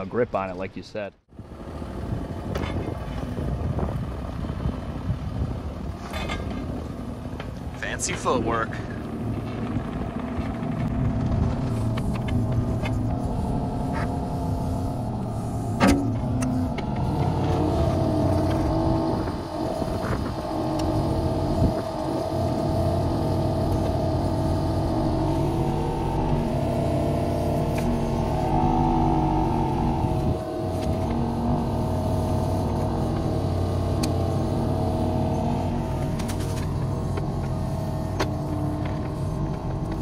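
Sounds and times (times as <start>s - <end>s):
excavator diesel engine under load: 1.4s - 40.0s.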